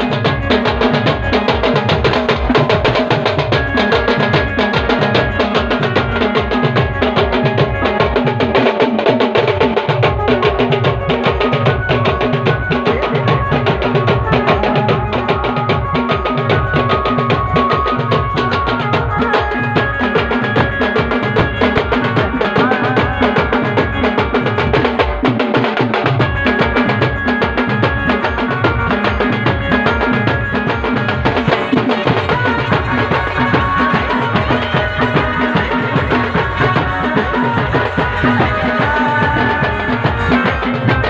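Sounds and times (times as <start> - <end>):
band playing dance music: 0.0 - 41.0
fast driving drum beat: 0.0 - 41.0.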